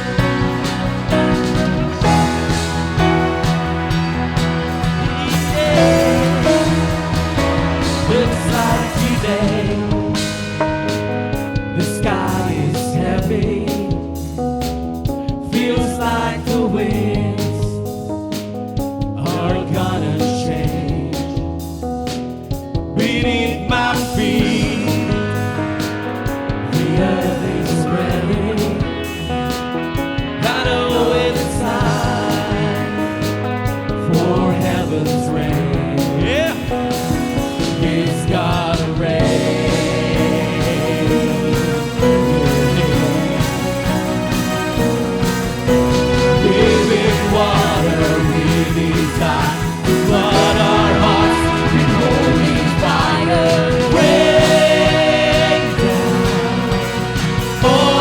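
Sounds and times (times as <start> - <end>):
live worship band playing: 0.0 - 58.0
steady drum beat: 0.0 - 58.0
sung melody: 0.0 - 58.0.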